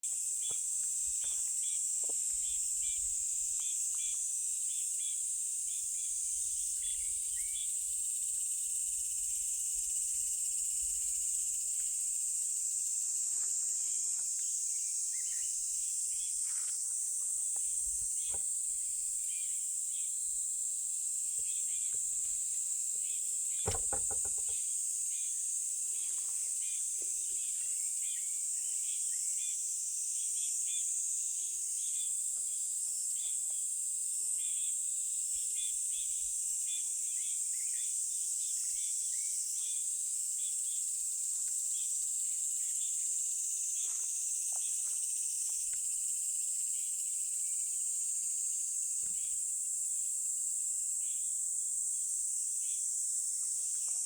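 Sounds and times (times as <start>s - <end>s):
insects droning: 0.1s - 54.0s.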